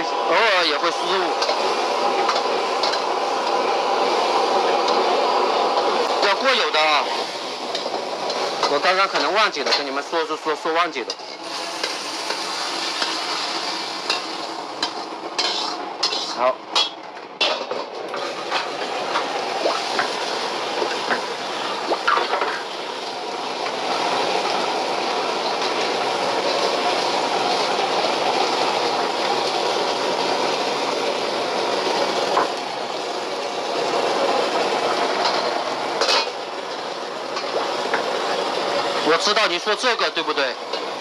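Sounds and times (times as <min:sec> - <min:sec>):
gas burner rushing: 0:00.0 - 0:41.0.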